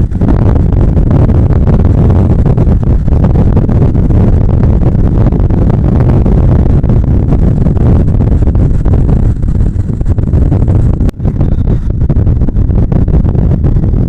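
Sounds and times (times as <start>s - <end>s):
motorcycle engine running: 0.0s - 14.0s
road noise: 0.0s - 14.0s
wind rush on microphone: 0.0s - 14.0s.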